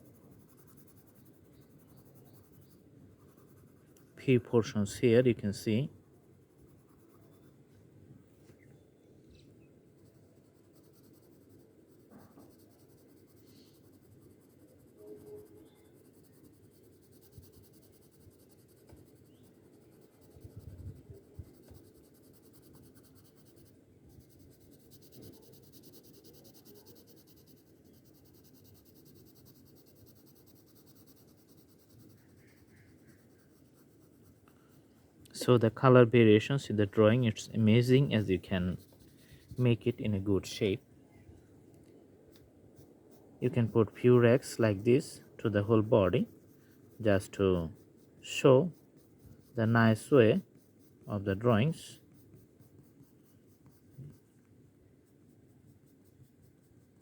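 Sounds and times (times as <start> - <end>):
colouring strokes scratching paper: 0.0 - 5.7, 6.4 - 7.6, 9.9 - 40.9, 42.3 - 57.0.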